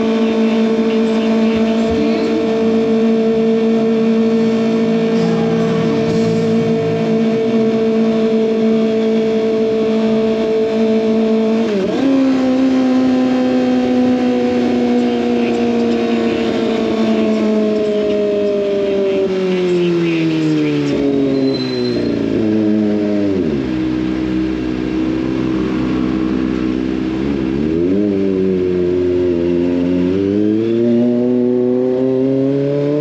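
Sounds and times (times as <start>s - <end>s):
motorcycle engine high-revving: 0.0s - 33.0s.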